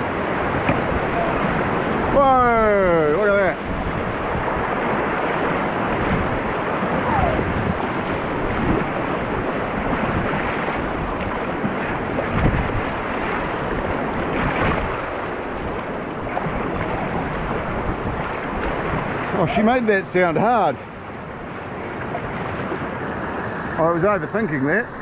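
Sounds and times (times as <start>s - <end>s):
wind buffeting microphone: 0.0s - 19.4s, 21.0s - 25.0s
river rapids rushing: 0.0s - 20.2s, 21.2s - 25.0s.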